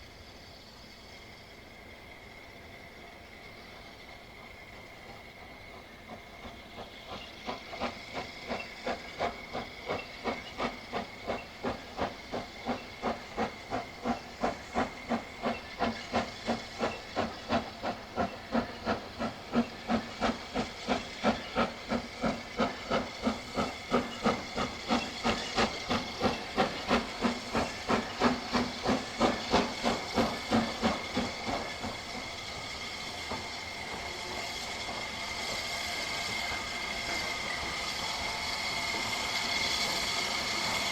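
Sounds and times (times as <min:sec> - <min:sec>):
steam hissing: 0:00.0 - 0:40.9
steam locomotive chuffing: 0:00.0 - 0:40.9.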